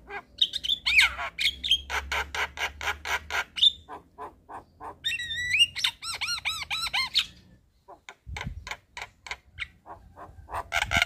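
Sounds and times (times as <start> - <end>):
birds harsh rasping chatter: 0.0 - 11.0.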